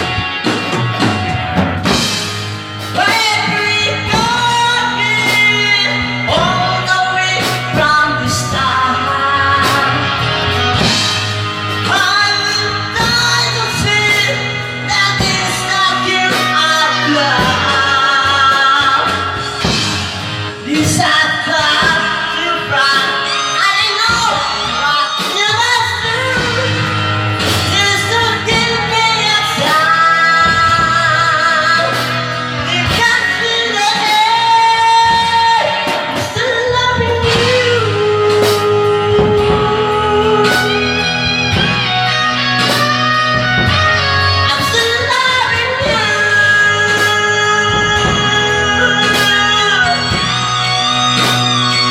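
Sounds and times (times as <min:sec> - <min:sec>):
pop song with singing: 0:00.0 - 0:51.9.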